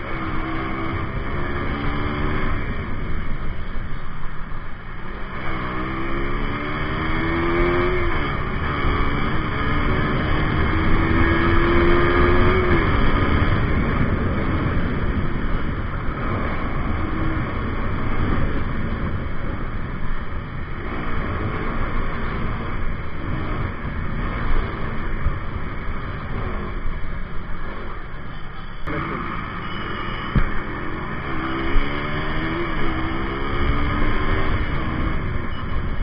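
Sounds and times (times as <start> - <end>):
wind rush on microphone: 0.0 - 29.6, 30.2 - 36.0
motorcycle engine: 0.0 - 36.0.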